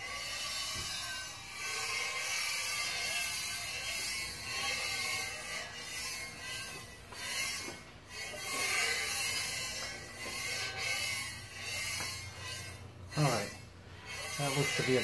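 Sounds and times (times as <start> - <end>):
iron plate rasping on granite: 0.0 - 15.0.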